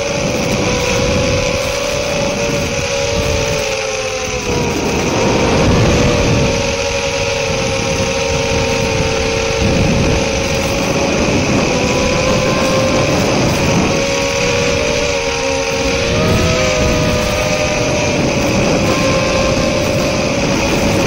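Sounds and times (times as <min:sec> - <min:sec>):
drone motors whining: 0:00.0 - 0:21.0
wind rushing: 0:00.0 - 0:21.0.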